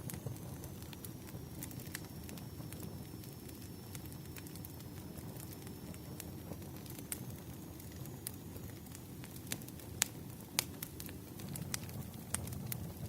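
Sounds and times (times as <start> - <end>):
flames rushing: 0.0 - 13.0
wood crackling and popping: 0.0 - 13.0.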